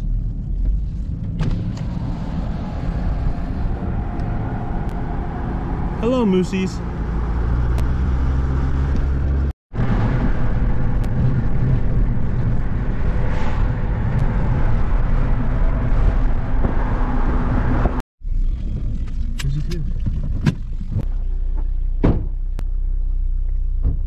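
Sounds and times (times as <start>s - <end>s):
low engine hum: 0.0s - 24.0s
tyre and road noise: 0.0s - 24.0s.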